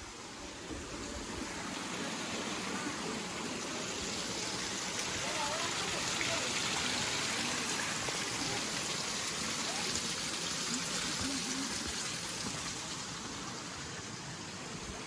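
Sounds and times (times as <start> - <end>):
waterfall rushing: 0.1 - 15.0
faint voices: 0.8 - 13.8.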